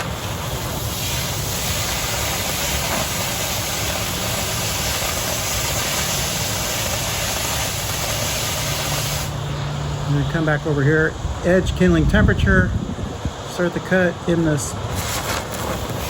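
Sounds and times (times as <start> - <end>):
cutting torch hissing: 0.0 - 11.5, 13.4 - 16.0.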